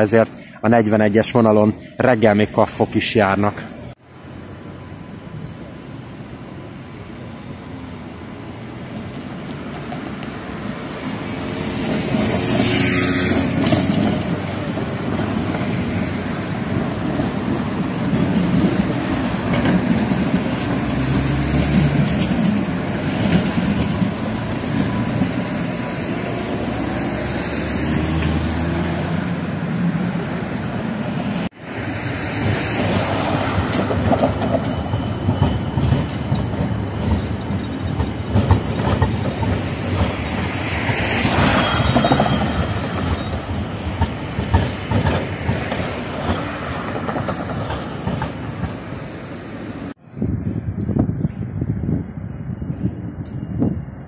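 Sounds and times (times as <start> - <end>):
road traffic passing: 0.0 - 54.0
tram wheels on rails: 0.0 - 54.0.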